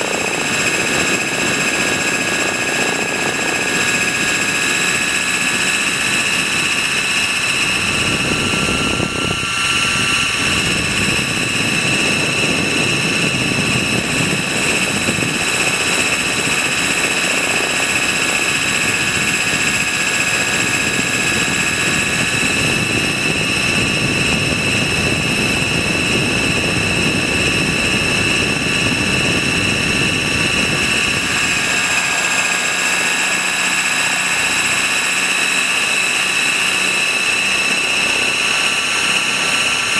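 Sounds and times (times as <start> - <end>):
rc helicopter motor whine: 0.0 - 39.9
rotor noise: 0.0 - 39.9.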